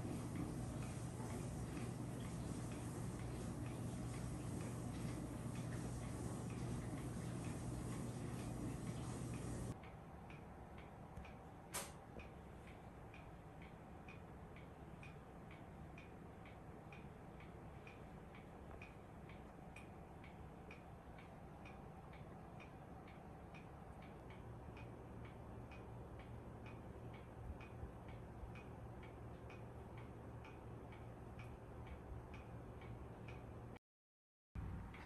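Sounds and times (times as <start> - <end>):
clock ticking: 0.0 - 11.4, 12.2 - 33.7
faint low hum: 0.0 - 33.8.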